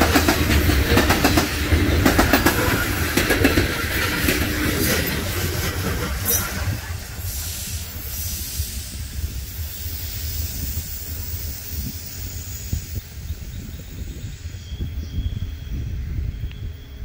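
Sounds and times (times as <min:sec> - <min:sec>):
low rumble of train cars: 0:00.0 - 0:17.0
train wheels hissing on rails: 0:00.0 - 0:17.0.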